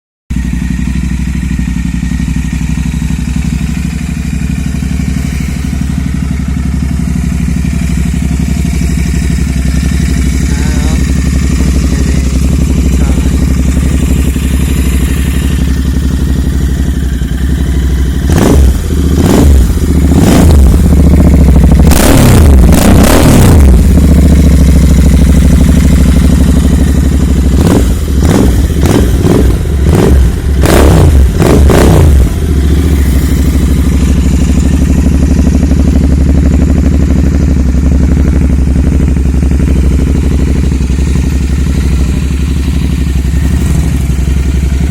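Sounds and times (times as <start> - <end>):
motorcycle engine idling and revving: 0.3 - 44.9.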